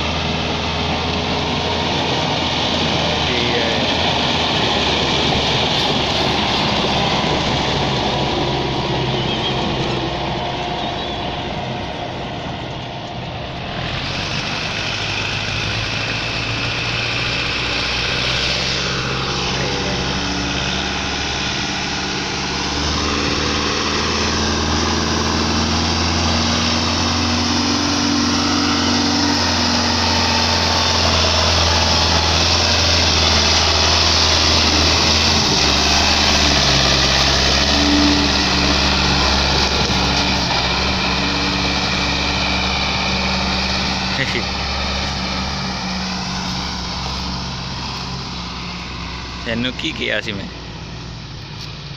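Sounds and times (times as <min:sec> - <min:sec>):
diesel tractor engines under load: 0:00.0 - 0:51.9.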